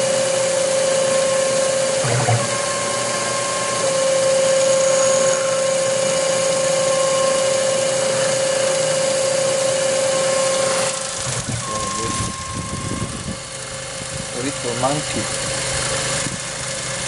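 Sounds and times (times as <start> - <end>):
lathe machine whine: 0.0 - 17.0.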